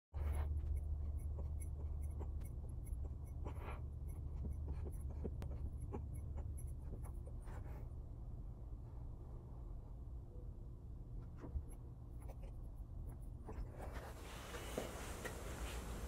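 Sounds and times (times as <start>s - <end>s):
steady low hum: 0.2s - 16.0s.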